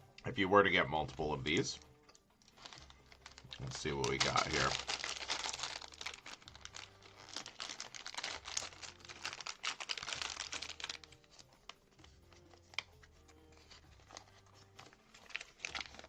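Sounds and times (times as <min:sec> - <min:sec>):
packaging crinkling and tearing: 0:02.4 - 0:16.0.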